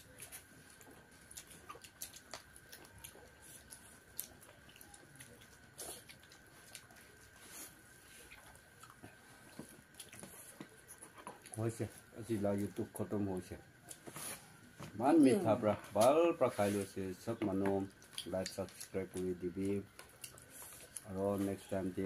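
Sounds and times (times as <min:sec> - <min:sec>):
people chewing: 0:00.0 - 0:14.9, 0:15.5 - 0:22.0.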